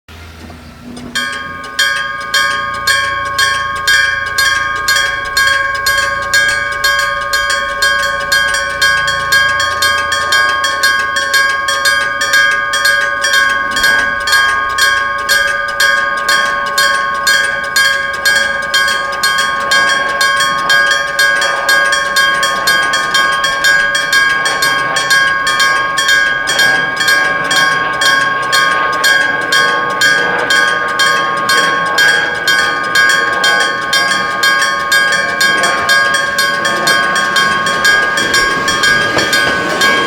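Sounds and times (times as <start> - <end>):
electric gong bell ringing fast: 1.0 - 40.0.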